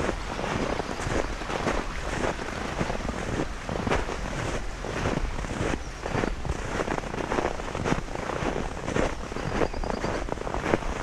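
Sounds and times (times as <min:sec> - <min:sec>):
footsteps in snow: 0:00.0 - 0:11.0
wind rumble on microphone: 0:00.0 - 0:11.0.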